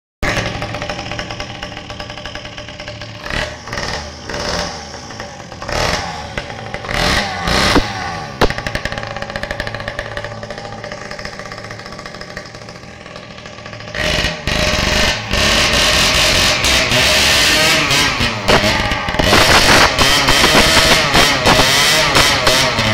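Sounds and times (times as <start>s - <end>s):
mini bike engine revving: 0.2s - 22.9s
sharp cracks: 0.2s - 22.9s.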